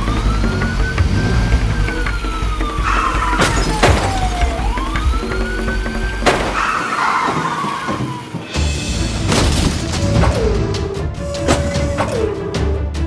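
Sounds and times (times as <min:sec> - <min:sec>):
police siren wailing: 0:00.0 - 0:08.4, 0:09.7 - 0:12.6
sharp crash noises: 0:00.0 - 0:12.5
background music: 0:00.0 - 0:13.0.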